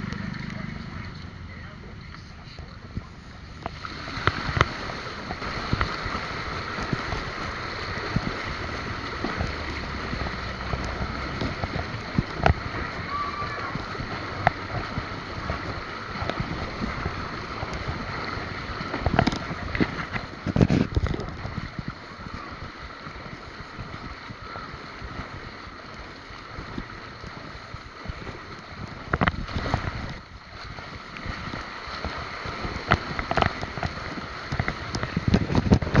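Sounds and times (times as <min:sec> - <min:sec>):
bicycle road noise: 0:00.0 - 0:36.0
wind rushing over microphone: 0:00.0 - 0:36.0.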